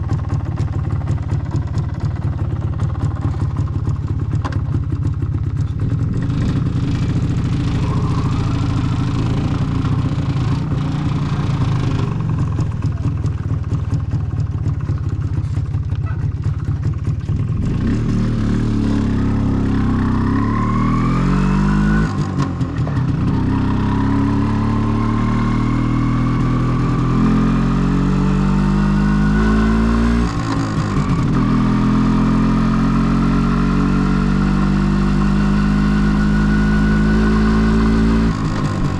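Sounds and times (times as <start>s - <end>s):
two-stroke motorcycle engine accelerating: 0.0s - 38.9s.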